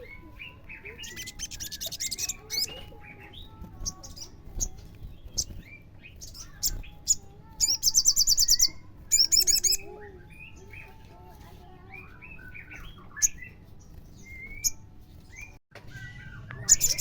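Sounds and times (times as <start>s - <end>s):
bird chirping: 0.0s - 17.0s
bird trill: 0.0s - 17.0s.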